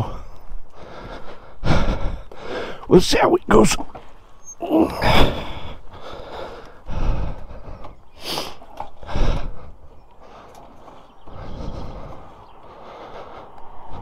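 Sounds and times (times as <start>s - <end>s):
person breathing: 0.0s - 2.9s, 4.0s - 14.0s.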